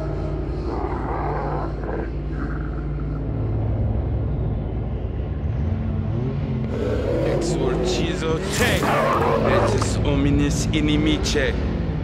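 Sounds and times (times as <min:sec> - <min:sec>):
car engine droning: 0:00.0 - 0:12.0
road and wind noise: 0:01.9 - 0:12.0.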